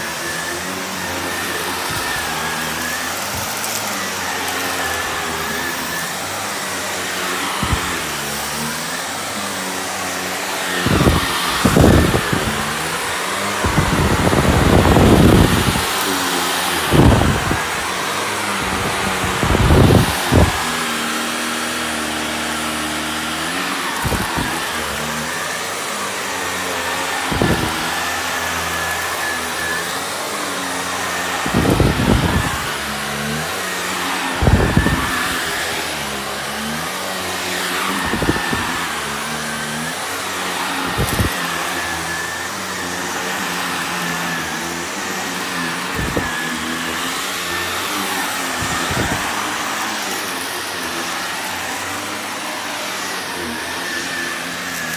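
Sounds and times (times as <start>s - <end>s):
vacuum cleaner whining: 0.0s - 54.9s.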